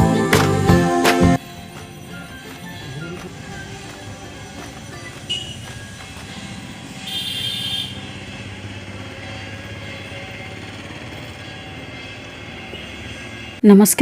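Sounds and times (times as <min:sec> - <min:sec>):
vehicle engine running: 0:01.4 - 0:13.6.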